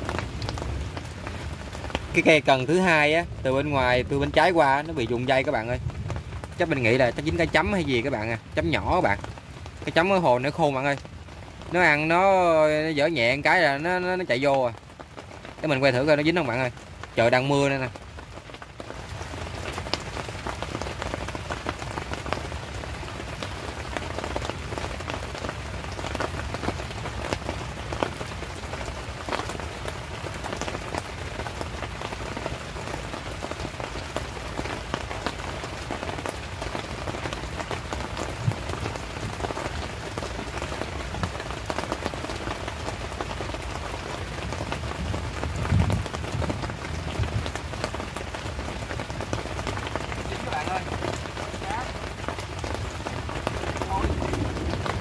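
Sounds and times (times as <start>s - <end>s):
raindrops ticking nearby: 0.0s - 55.0s
steady rain falling: 0.0s - 55.0s.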